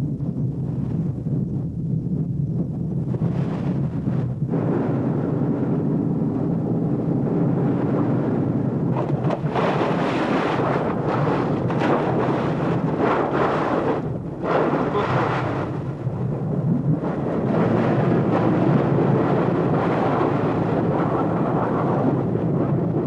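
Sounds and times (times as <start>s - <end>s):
wind buffeting microphone: 0.0s - 23.0s
choppy sea: 2.6s - 23.0s.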